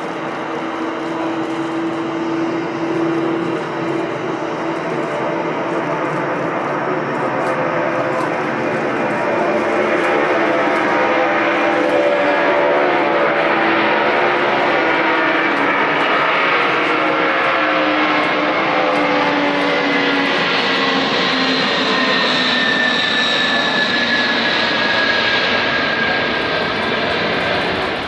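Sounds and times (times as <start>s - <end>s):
aircraft engines whining: 0.0s - 28.0s.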